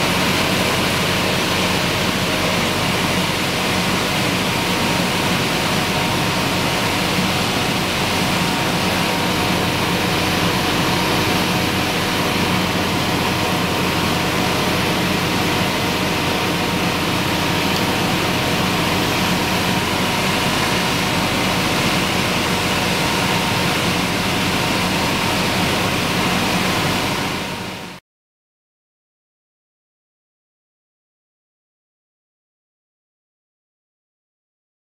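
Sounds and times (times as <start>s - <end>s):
machinery engine drone: 0.0s - 28.0s.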